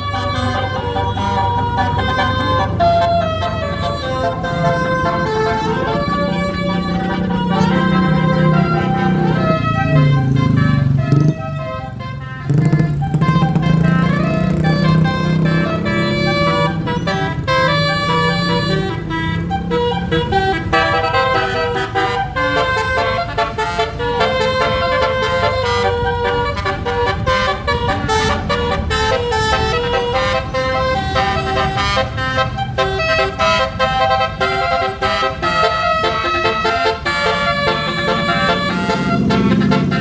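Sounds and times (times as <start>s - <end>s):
bus air horn playing tune: 0.0s - 40.0s.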